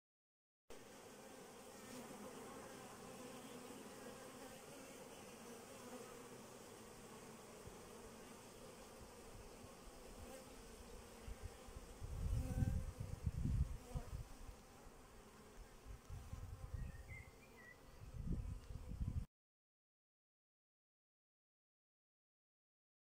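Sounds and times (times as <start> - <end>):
honeybees buzzing: 0.8 - 19.3.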